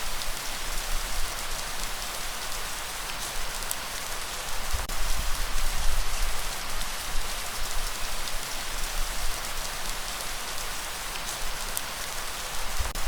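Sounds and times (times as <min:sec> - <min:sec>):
steady rain falling: 0:00.0 - 0:13.0
raindrops ticking: 0:01.4 - 0:13.0.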